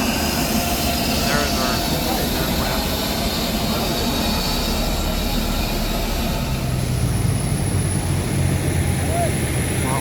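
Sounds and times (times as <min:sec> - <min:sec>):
jet aircraft rumble: 0:00.0 - 0:10.0.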